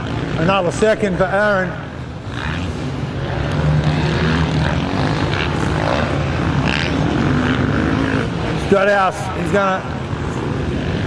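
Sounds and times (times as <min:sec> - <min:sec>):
motocross bike engine revving high: 0:00.0 - 0:11.0.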